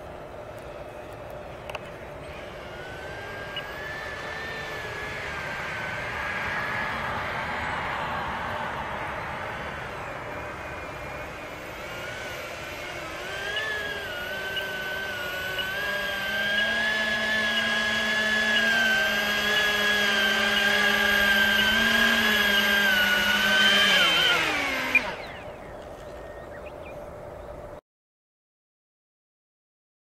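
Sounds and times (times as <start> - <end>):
electric motors and propellers whining: 0.0 - 27.8.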